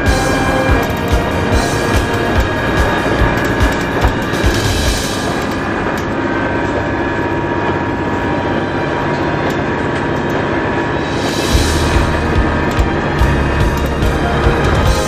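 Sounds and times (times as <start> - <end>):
diesel railcar running: 0.0 - 15.0.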